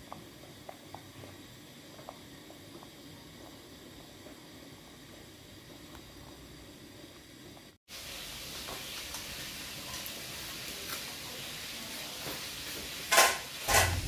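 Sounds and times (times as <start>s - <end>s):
water boiling and bubbling: 0.0s - 14.0s.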